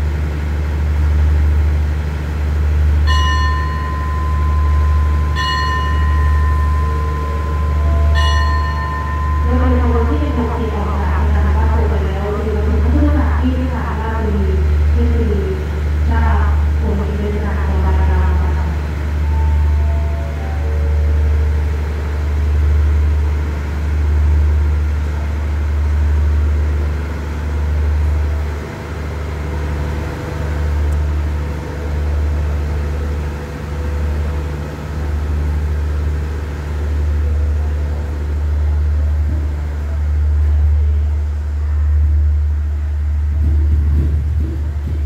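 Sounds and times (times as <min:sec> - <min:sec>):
diesel train rumbling: 0:00.0 - 0:45.0.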